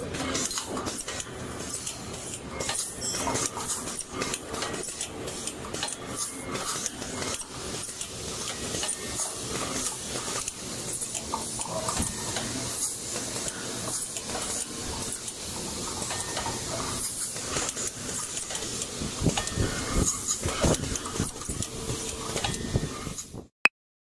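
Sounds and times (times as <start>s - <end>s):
sharp machine clicks and knocks: 0.0s - 23.3s
filling machine mechanical clatter: 0.0s - 23.5s.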